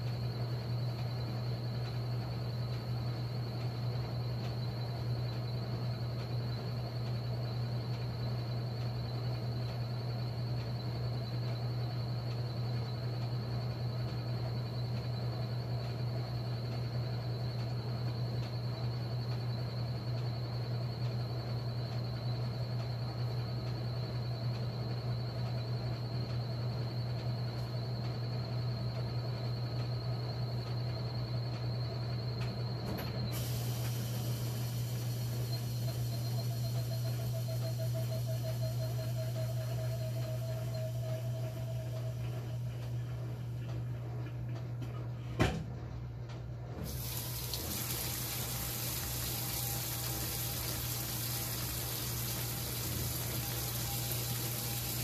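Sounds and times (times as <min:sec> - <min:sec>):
faint high whine: 0:00.0 - 0:45.8, 0:46.7 - 0:55.0
washing machine low hum: 0:00.0 - 0:55.0.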